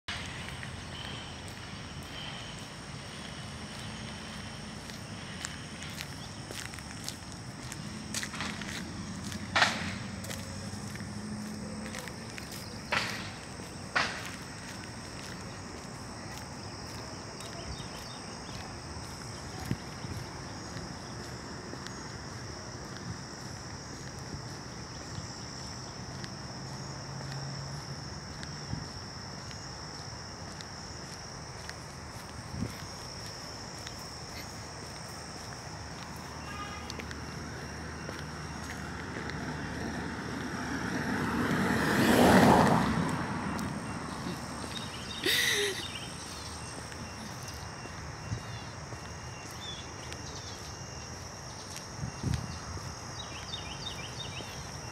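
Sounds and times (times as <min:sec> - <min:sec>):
light footsteps: 0:00.1 - 0:41.6, 0:42.4 - 0:54.9
car passing: 0:00.1 - 0:49.4
high insect drone: 0:00.1 - 0:54.9.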